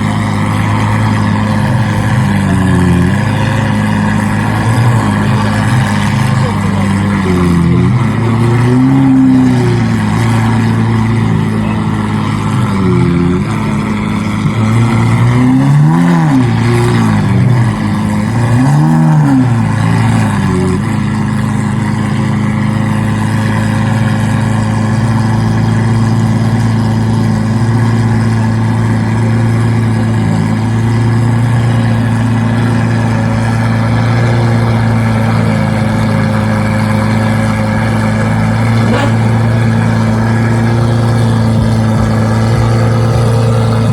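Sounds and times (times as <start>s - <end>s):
car engine revving and idling: 0.0s - 43.9s.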